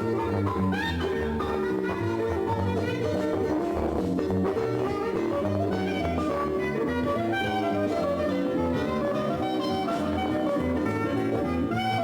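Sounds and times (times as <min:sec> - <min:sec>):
instrumental reggae music: 0:00.0 - 0:12.0.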